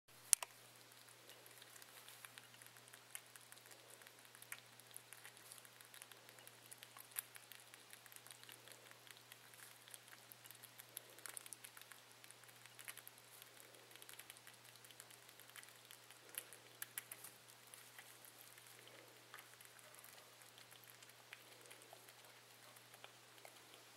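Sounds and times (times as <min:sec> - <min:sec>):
low steady hum: 0:00.1 - 0:23.9
rabbit suckling wet clicks: 0:00.1 - 0:23.9.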